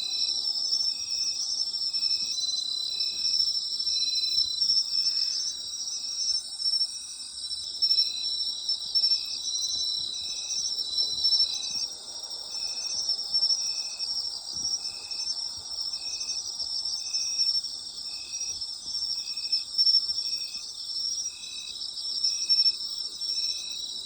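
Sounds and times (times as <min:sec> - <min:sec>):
insect chirping rhythmically: 0:00.0 - 0:24.0
insects trilling: 0:00.1 - 0:24.0.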